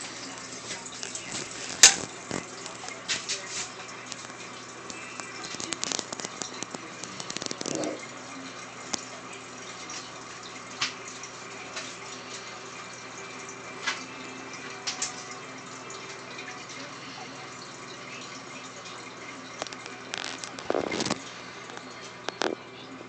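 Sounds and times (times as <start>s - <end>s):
aquarium water bubbling: 0.0s - 23.0s
equipment humming: 0.0s - 23.0s.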